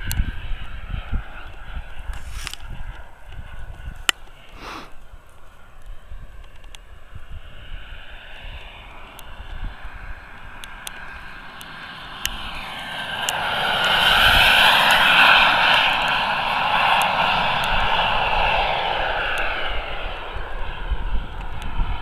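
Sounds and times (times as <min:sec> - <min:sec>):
model jet turbine whine: 0:00.0 - 0:22.0.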